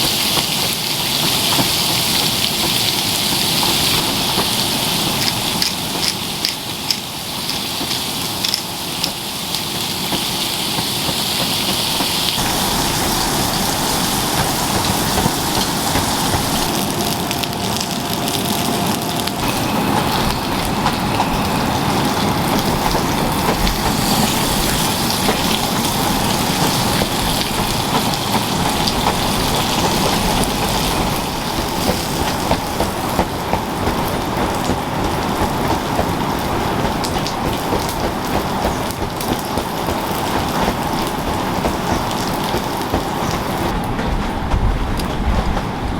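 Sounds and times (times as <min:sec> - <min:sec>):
raindrops tapping close by: 0:00.0 - 0:45.6
steady rain falling: 0:00.0 - 0:45.9.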